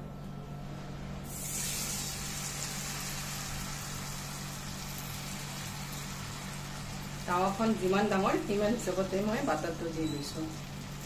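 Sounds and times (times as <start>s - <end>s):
batter sizzling in a frying pan: 1.2s - 11.0s.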